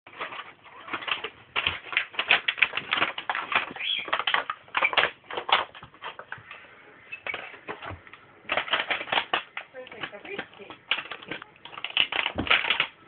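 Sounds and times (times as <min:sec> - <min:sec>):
dog claws clicking on wooden floor: 0:00.1 - 0:06.5, 0:07.3 - 0:13.0.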